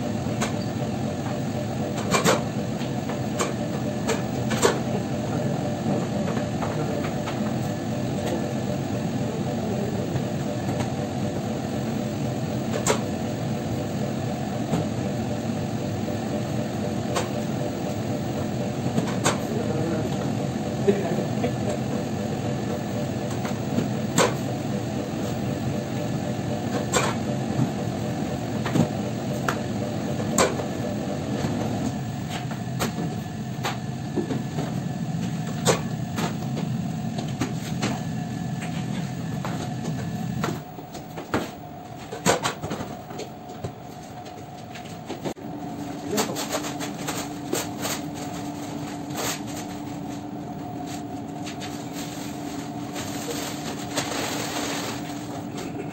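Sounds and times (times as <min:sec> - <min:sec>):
bakery machinery hum: 0:00.0 - 0:55.9.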